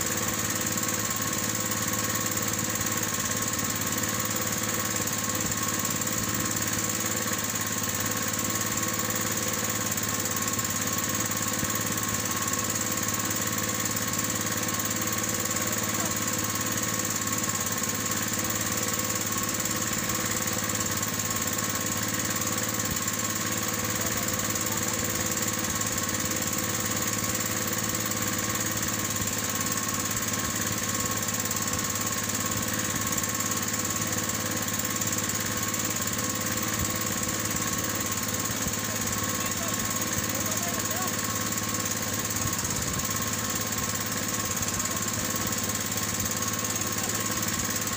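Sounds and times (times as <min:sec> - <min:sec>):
small engine running: 0:00.0 - 0:47.9.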